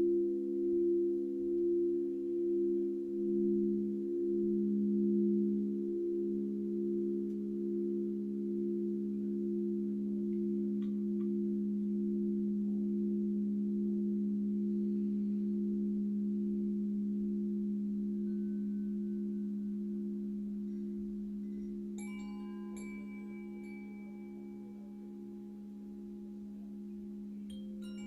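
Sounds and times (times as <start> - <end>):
faint higher tone: 0.0 - 28.0
singing bowls droning: 0.0 - 28.0.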